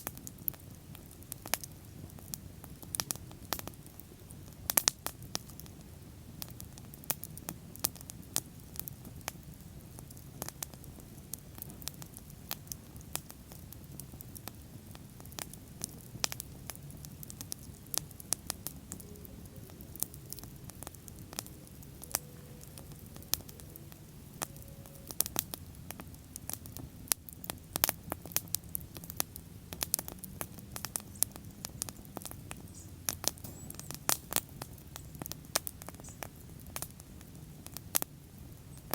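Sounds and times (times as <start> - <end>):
bonfire crackling: 0.0 - 38.9.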